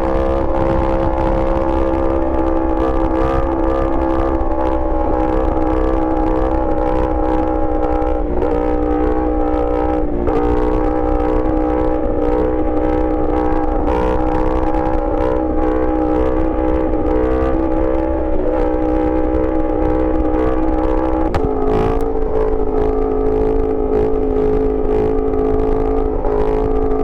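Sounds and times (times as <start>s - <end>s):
motorcycle engine running loud: 0.0s - 27.0s.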